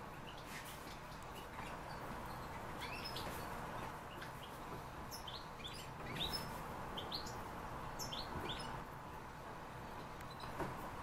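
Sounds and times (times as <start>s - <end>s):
faint room hiss: 0.0s - 11.0s
small birds chirping: 0.0s - 11.0s.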